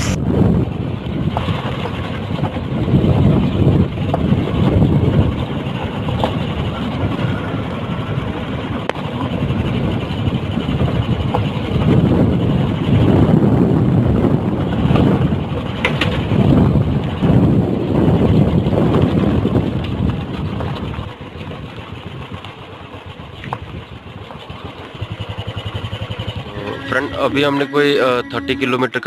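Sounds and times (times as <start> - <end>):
motorcycle engine running: 0.0 - 28.5
wind rumbling on microphone: 0.0 - 29.0.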